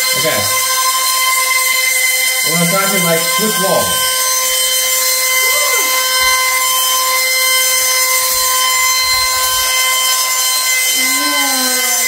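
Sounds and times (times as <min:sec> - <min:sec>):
suction fan high whine: 0:00.0 - 0:12.0.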